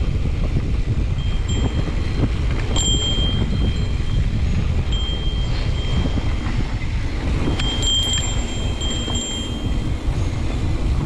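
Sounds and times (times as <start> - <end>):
wind buffeting microphone: 0.0 - 11.0
high ringing tone: 1.1 - 10.6.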